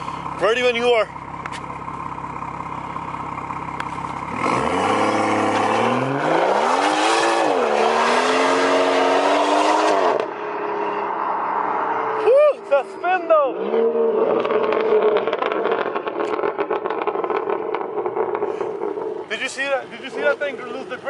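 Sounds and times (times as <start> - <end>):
car engine revving: 1.4 - 12.3, 13.4 - 21.0.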